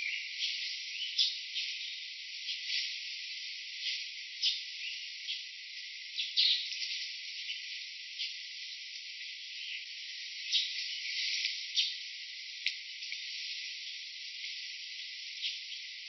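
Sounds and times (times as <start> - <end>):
insect chorus hiss: 0.0 - 16.0.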